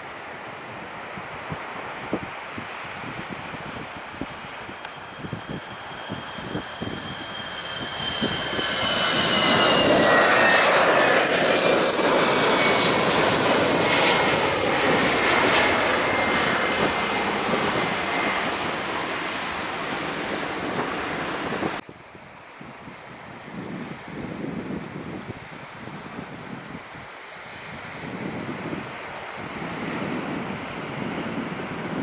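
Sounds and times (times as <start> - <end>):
airliner passing close by: 0.0 - 32.0.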